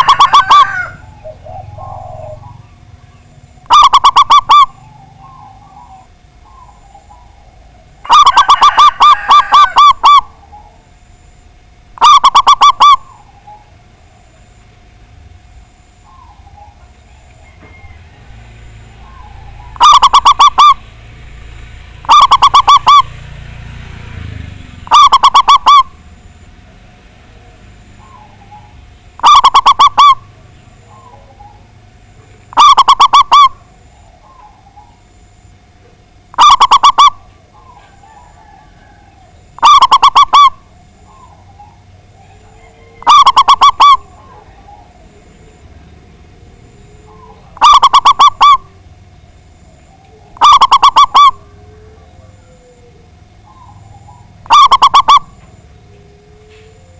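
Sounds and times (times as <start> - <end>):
dove cooing in rapid staccato notes: 0.0 - 11.0, 11.7 - 15.5, 16.1 - 56.9
birds chirping: 0.0 - 56.9.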